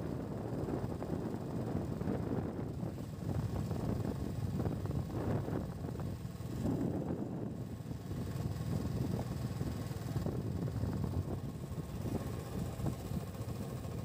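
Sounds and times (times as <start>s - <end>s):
motorcycle engine drone: 0.0s - 14.0s
wind buffeting microphone: 0.0s - 14.0s.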